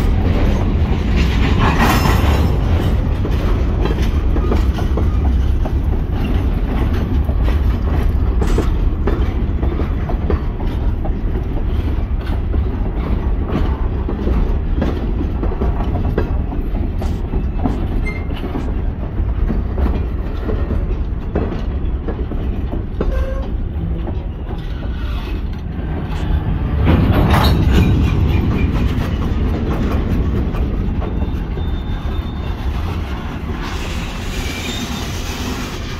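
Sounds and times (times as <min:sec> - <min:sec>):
wheels clicking over rail joints: 0:00.0 - 0:34.8
steel wheels rumbling on rail: 0:00.0 - 0:35.9.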